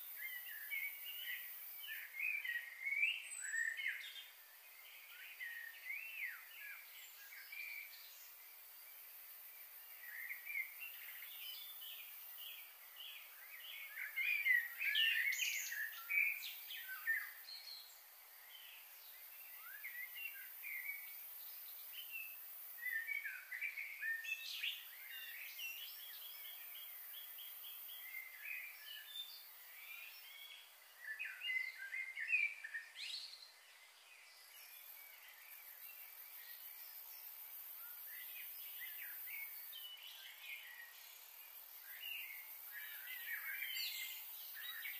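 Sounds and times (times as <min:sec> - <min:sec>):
small birds chirping and trilling: 0:00.0 - 0:44.9
thin steady high hiss: 0:00.0 - 0:44.9.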